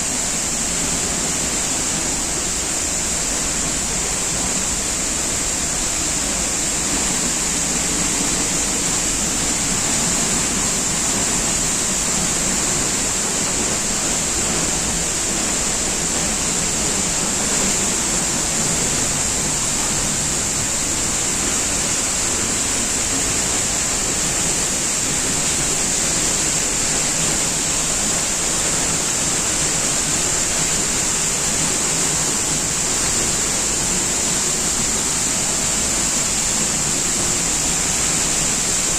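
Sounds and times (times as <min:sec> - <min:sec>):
high hiss: 0:00.0 - 0:38.9
waterfall rushing: 0:00.0 - 0:38.9.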